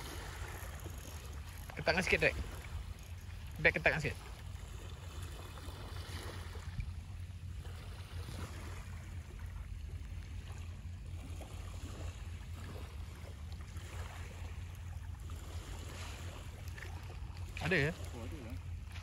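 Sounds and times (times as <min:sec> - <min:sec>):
small waves washing: 0:00.0 - 0:19.0.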